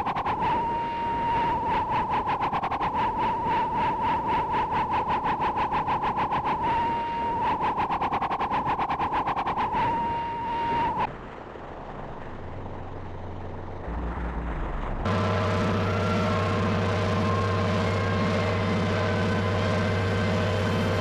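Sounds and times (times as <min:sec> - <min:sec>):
electronic pulsing tone: 0:00.0 - 0:11.1, 0:13.9 - 0:21.0
low steady hum: 0:00.0 - 0:21.0.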